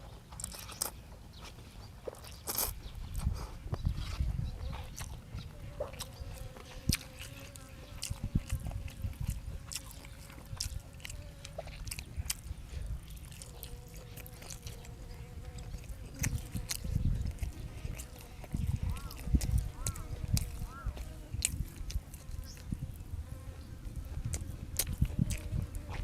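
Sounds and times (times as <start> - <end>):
person chewing crunchy food: 0.3 - 26.0.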